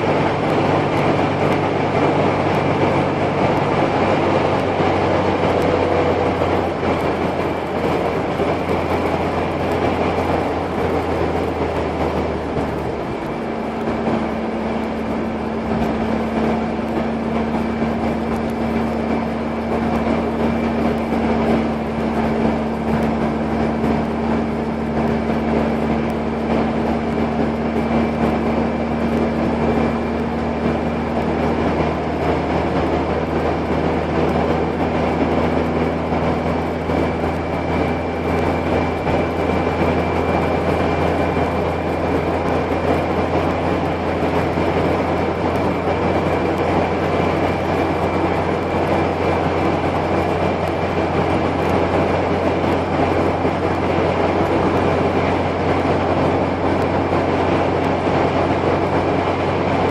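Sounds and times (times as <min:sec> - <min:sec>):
car engine: 0:00.0 - 0:59.9
road noise inside car: 0:00.0 - 0:59.9.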